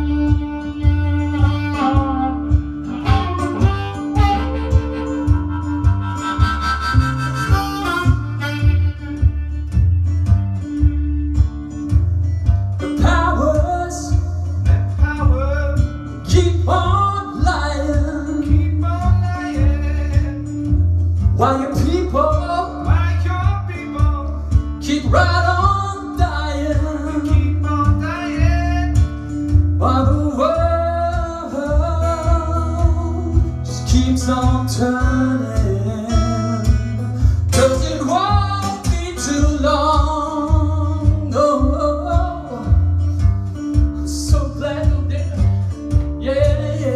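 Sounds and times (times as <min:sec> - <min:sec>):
man singing: 0:00.0 - 0:09.0, 0:12.8 - 0:43.0, 0:43.7 - 0:46.9
acoustic guitar: 0:00.0 - 0:46.9
pulsing bass line: 0:00.0 - 0:46.9.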